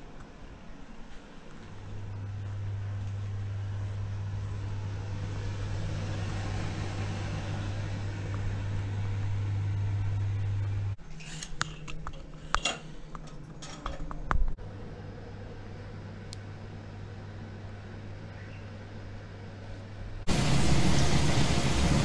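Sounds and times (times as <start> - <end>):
low hum with faint hiss: 0.0 - 22.0.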